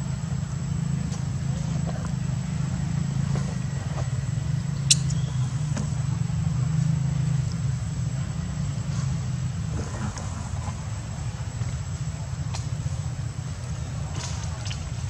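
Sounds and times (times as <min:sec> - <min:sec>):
faint high whine: 0:00.0 - 0:12.4.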